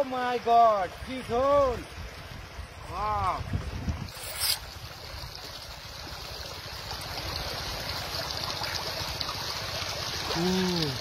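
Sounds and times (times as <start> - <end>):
water trickling over rocks: 0.0 - 11.0.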